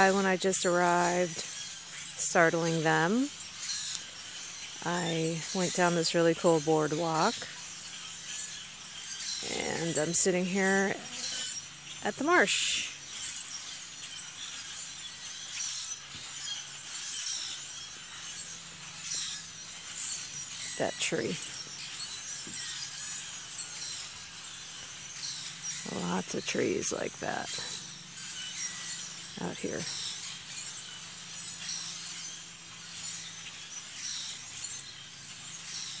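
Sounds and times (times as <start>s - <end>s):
marsh birds calling and chirping: 0.0s - 36.0s.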